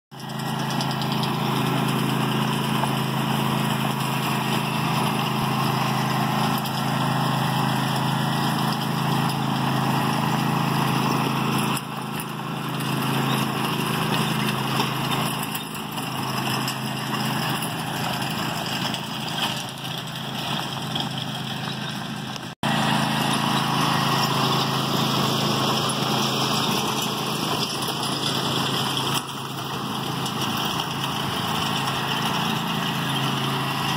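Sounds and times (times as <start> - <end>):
riding lawn mower engine: 0.1 - 33.9.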